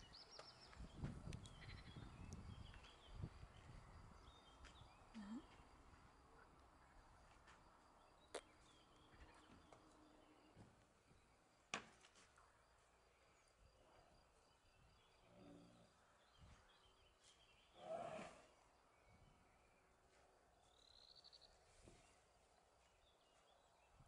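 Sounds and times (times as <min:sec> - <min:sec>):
faint outdoor ambience: 0:00.0 - 0:24.0.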